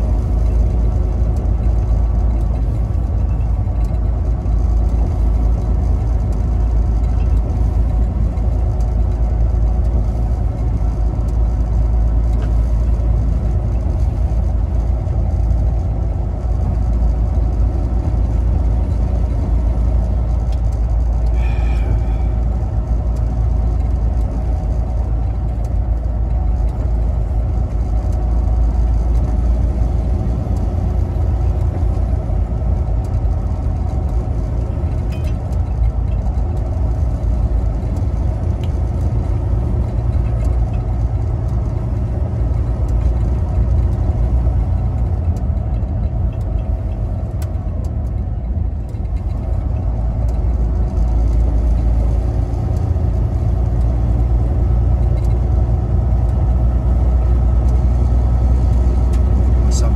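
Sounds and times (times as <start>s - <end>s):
truck diesel engine droning: 0.0s - 59.9s.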